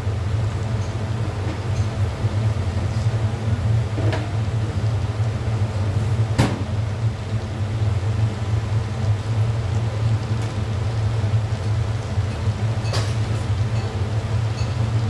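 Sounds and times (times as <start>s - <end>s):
gas burner rumbling: 0.0s - 15.0s.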